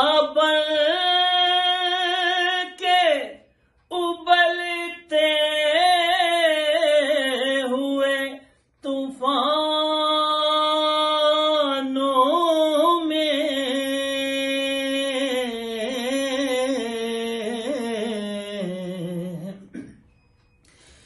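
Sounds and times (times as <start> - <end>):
man singing unaccompanied: 0.0 - 19.7.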